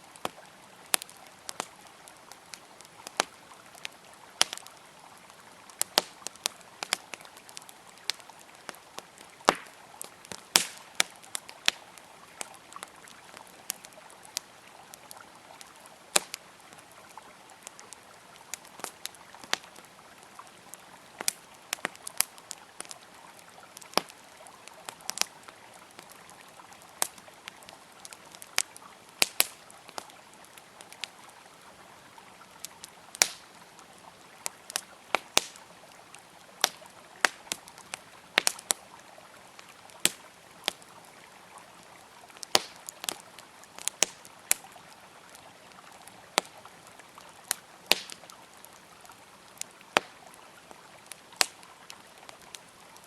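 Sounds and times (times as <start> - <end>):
campfire crackling and popping: 0.0 - 53.0
river flowing: 0.0 - 53.0.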